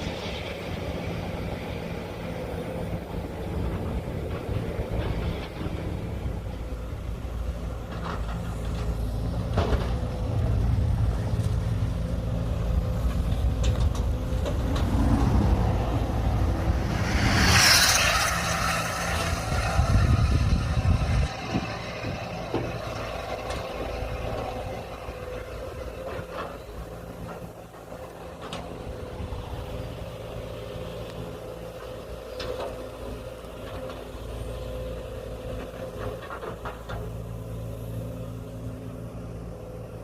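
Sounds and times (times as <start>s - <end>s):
diesel machinery humming: 0.0s - 40.0s.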